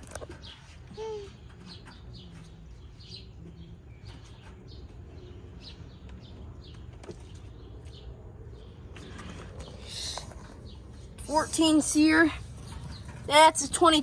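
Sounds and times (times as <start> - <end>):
air conditioner unit humming: 0.0 - 14.0
small birds chirping: 0.0 - 14.0.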